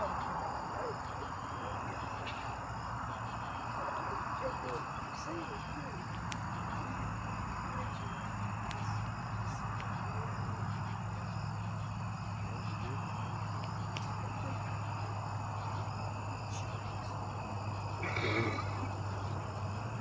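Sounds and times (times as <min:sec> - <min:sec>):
constant low hum: 0:00.0 - 0:20.0
crickets and insects chirping: 0:00.0 - 0:20.0.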